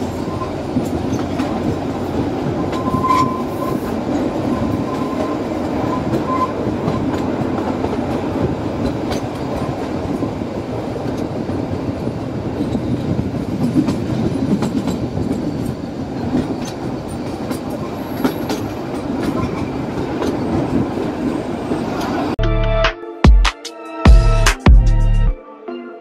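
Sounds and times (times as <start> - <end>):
train wheels rumbling on rail: 0.0 - 22.4.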